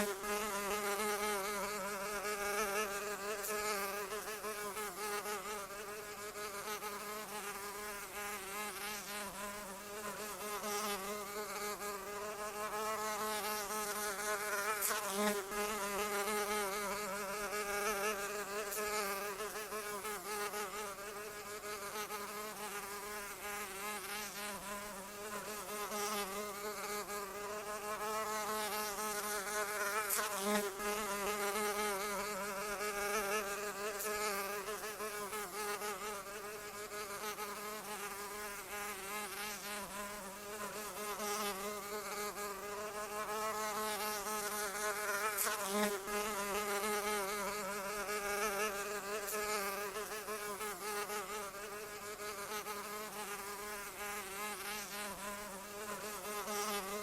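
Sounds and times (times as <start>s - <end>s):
insect wings buzzing: 0.0s - 57.0s.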